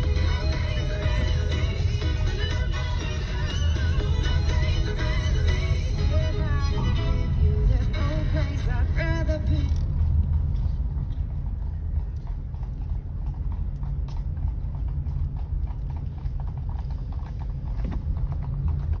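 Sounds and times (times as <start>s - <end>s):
car low rumble: 0.0s - 19.0s
horse hooves clip-clopping on tarmac: 0.0s - 19.0s.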